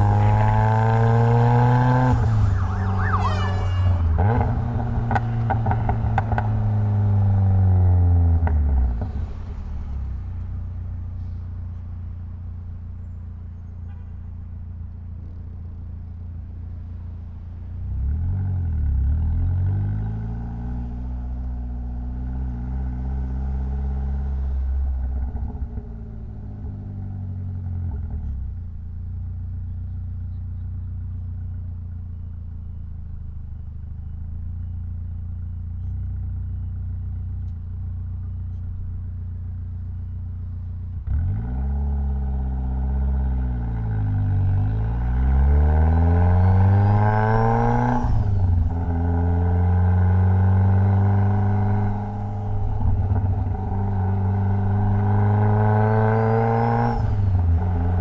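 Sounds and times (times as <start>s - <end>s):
car engine in traffic: 0.0s - 58.0s.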